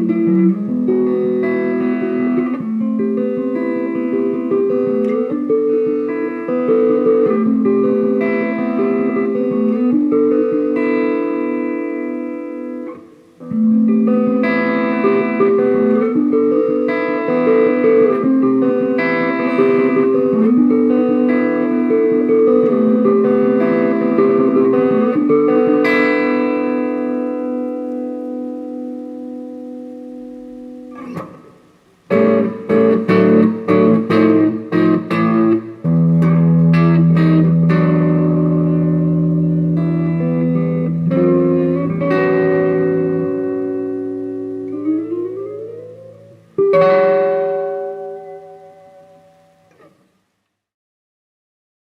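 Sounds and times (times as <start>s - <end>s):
electric guitar chords: 0.0s - 50.4s.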